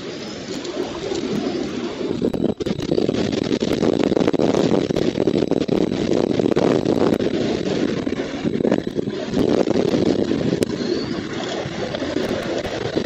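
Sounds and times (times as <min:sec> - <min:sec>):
wind buffeting microphone: 0:00.0 - 0:13.0
faint clicks: 0:00.3 - 0:13.0.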